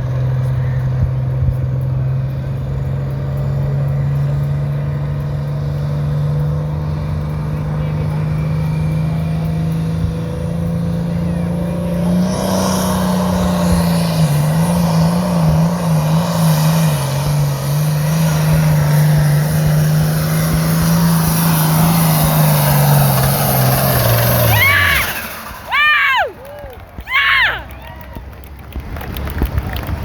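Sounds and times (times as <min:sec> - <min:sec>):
tractor diesel engine at full throttle: 0:00.0 - 0:27.5.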